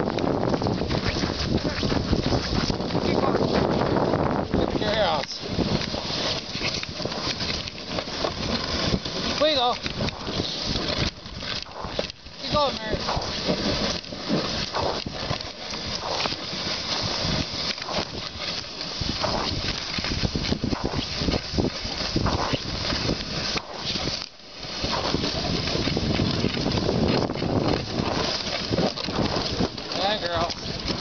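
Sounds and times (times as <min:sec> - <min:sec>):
sled runners scraping snow: 0:00.0 - 0:31.0
knocks and crunches: 0:04.7 - 0:31.0.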